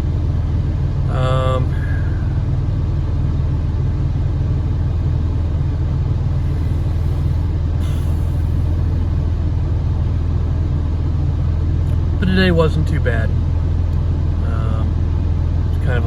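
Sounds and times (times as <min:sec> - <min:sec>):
air conditioning running: 0:00.0 - 0:16.0
van engine idling: 0:00.0 - 0:16.0.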